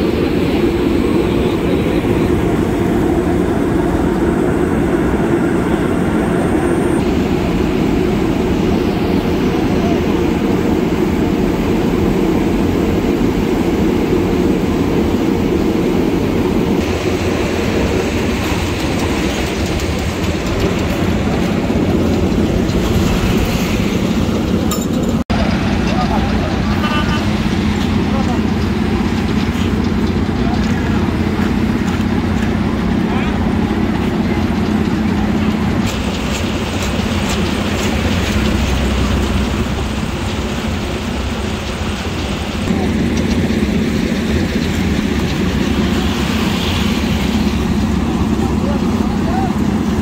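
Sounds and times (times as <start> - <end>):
asphalt paver rumbling: 0.0 - 50.0.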